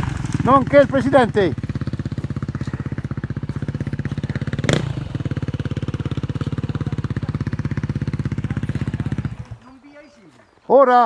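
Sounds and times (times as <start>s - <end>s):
motorcycle engine idling: 0.0s - 10.3s.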